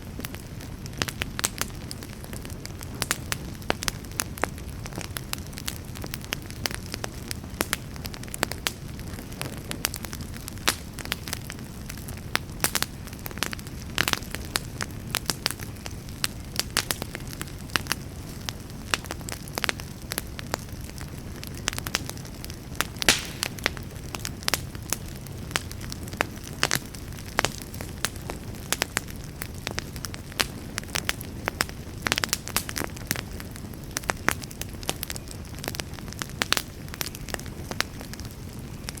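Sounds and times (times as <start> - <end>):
campfire roar: 0.0 - 39.0
fire crackles and pops: 0.0 - 39.0.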